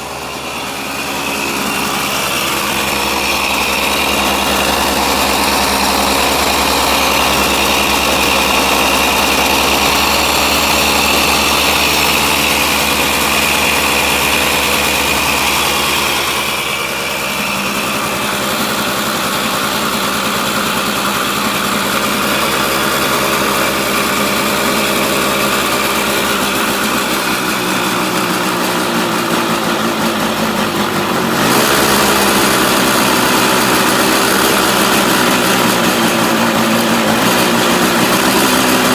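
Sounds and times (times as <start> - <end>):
two-stroke engine running unevenly: 0.0 - 38.9.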